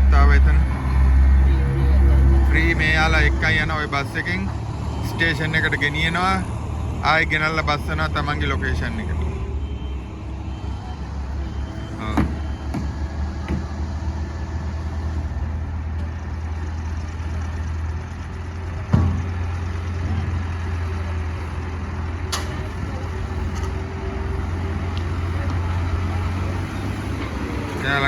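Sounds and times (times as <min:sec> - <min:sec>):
large vehicle engine humming: 0:00.0 - 0:28.0.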